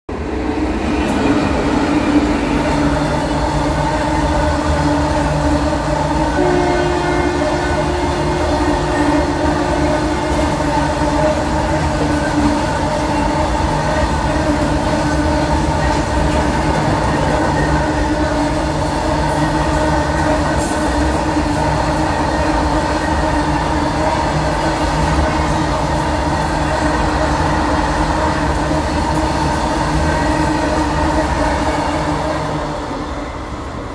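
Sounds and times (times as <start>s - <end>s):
train wheels rumbling on rail: 0.1s - 33.9s
long steady tone: 2.2s - 33.9s.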